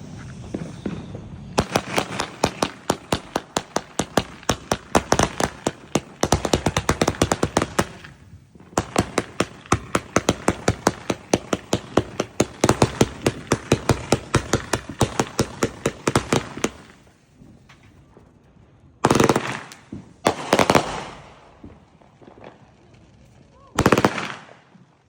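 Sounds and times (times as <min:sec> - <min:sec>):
fireworks crackling rapidly: 0:00.0 - 0:25.0.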